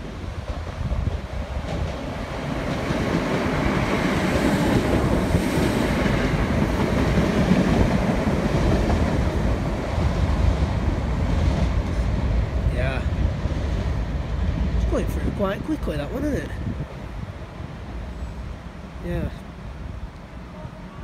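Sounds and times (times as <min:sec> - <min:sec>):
electric train wheels rumbling on rails: 0:00.0 - 0:21.0.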